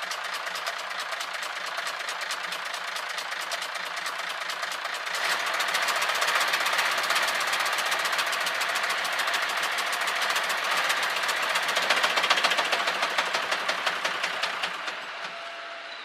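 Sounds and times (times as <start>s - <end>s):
diesel engine knocking: 0.0s - 15.6s.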